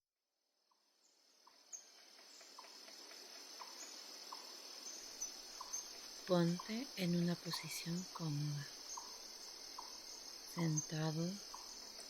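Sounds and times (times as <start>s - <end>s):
crickets chirring: 0.7s - 12.0s.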